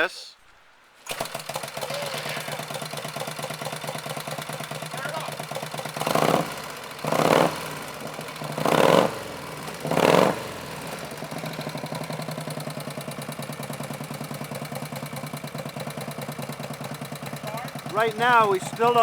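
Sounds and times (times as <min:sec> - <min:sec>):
motorcycle engine revving and idling: 0:01.1 - 0:19.0.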